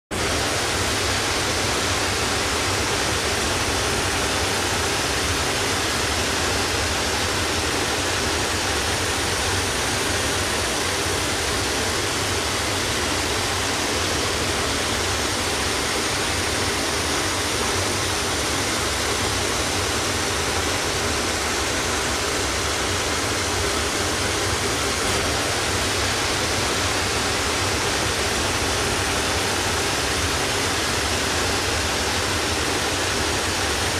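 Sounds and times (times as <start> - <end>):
steady rushing noise: 0.1 - 33.9.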